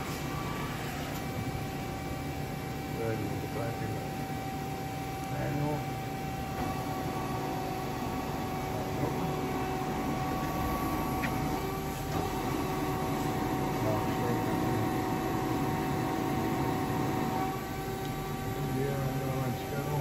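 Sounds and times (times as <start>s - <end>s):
lathe humming: 0.0s - 20.0s.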